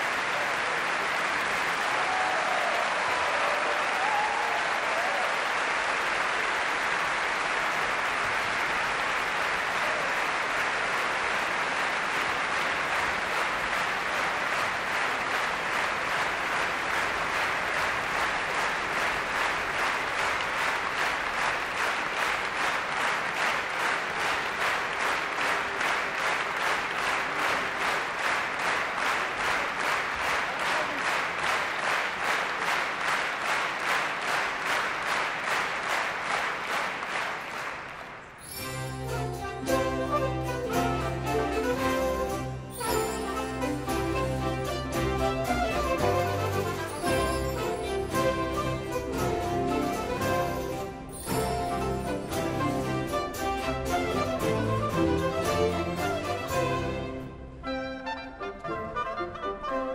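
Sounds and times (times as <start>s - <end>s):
audience applauding: 0.0s - 57.2s.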